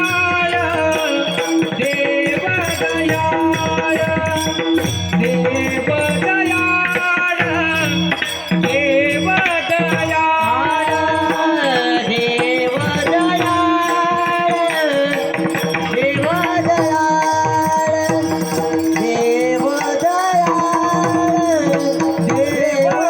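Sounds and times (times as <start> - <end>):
man singing: 0.0 - 23.0
tabla: 0.0 - 23.0.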